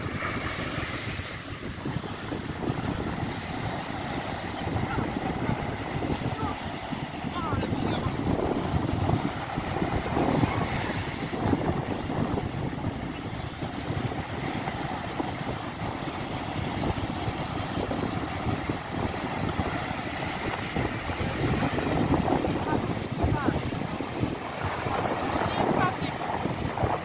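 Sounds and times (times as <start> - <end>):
surf breaking on sandy beach: 0.0 - 27.0
wind noise on microphone: 0.0 - 27.0.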